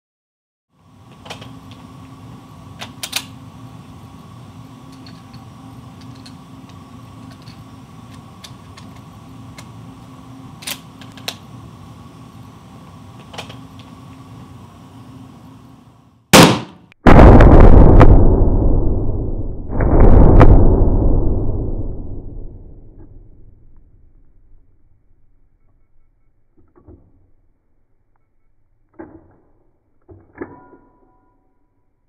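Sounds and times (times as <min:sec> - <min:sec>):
room hum: 0:00.7 - 0:29.0.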